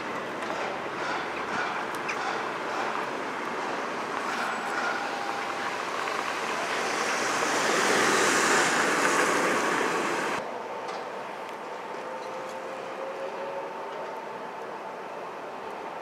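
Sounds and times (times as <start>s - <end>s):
trains rushing past: 0.0s - 16.0s.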